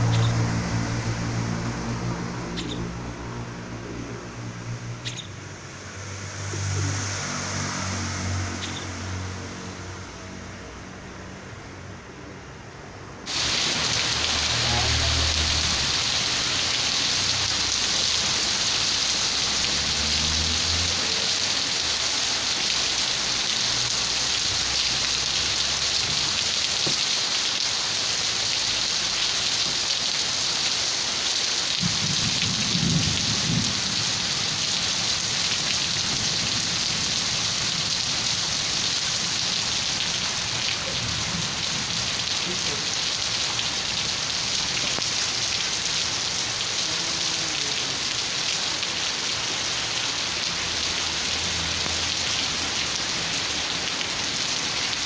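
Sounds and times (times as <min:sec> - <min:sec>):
heavy rain falling: 0:00.0 - 0:11.3, 0:13.2 - 0:55.0.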